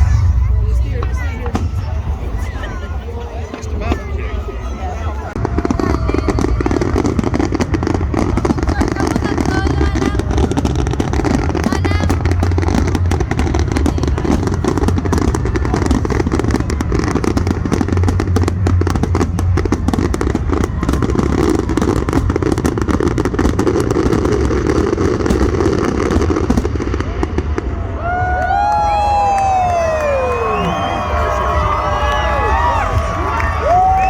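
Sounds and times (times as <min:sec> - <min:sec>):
fireworks bangs and crackles: 0:00.0 - 0:34.0
low rumble: 0:00.0 - 0:34.0.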